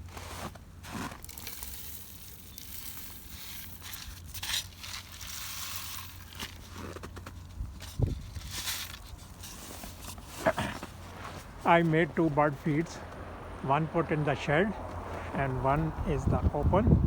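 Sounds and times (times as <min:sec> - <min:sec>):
footsteps crunching in snow: 0:00.0 - 0:15.9.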